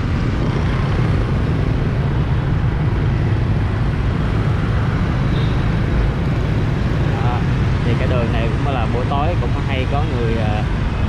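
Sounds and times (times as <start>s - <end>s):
vehicle rumbling in traffic: 0.0s - 11.0s.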